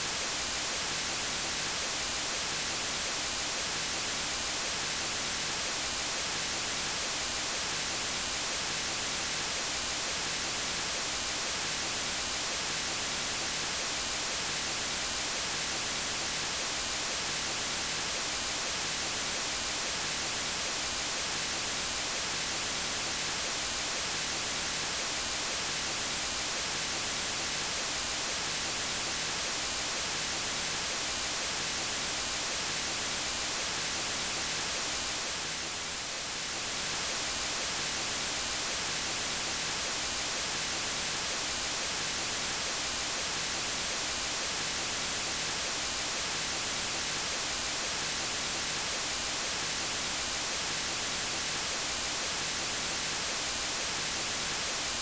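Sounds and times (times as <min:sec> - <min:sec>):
electronic white noise hiss: 0:00.0 - 0:55.0.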